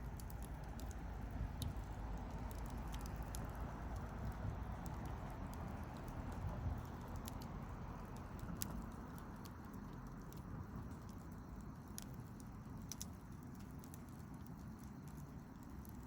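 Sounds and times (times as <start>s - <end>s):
rush of flames: 0.0s - 16.0s
wood crackling and popping: 0.0s - 16.0s.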